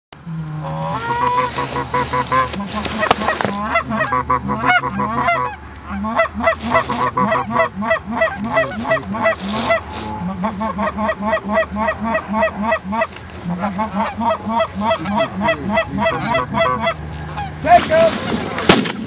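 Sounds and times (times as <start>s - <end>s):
geese honking and clucking: 0.2s - 18.8s.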